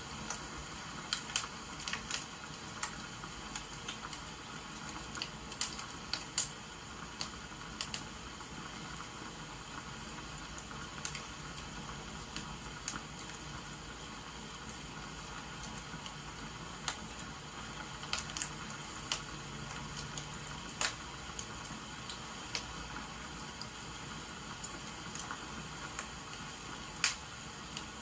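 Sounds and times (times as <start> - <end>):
rain hissing: 0.0 - 28.0
wood fire crackling: 0.0 - 28.0.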